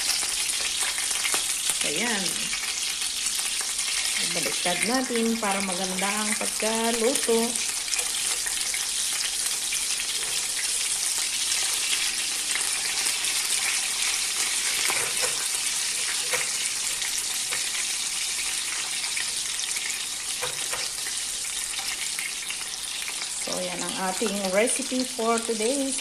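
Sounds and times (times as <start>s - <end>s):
patties sizzling in hot oil: 0.0s - 26.0s.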